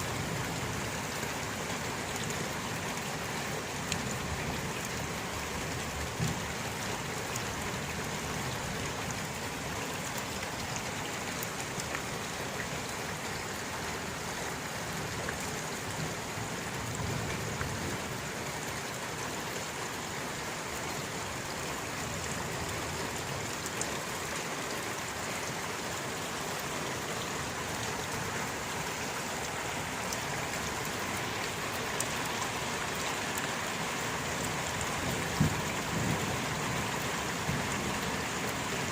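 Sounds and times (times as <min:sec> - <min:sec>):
steady rain hiss: 0:00.0 - 0:38.9
raindrops ticking: 0:00.1 - 0:18.9, 0:19.5 - 0:38.9.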